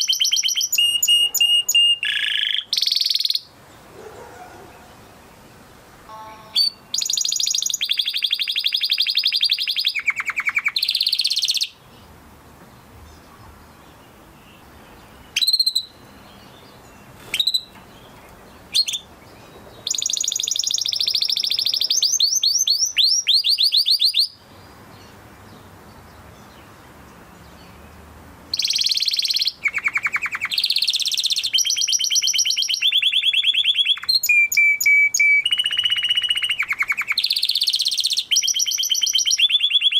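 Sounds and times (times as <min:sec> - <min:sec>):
canary singing trills: 0:00.0 - 0:05.2, 0:06.0 - 0:12.2, 0:13.0 - 0:39.9.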